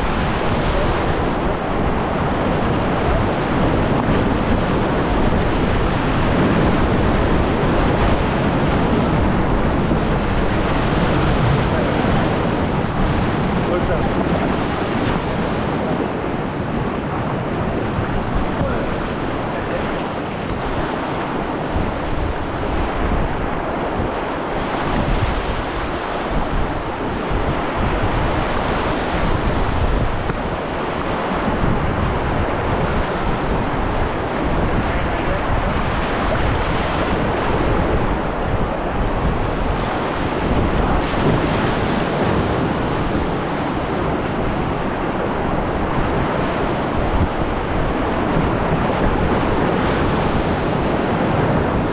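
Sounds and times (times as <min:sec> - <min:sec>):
whitewater rushing: 0:00.0 - 0:51.9.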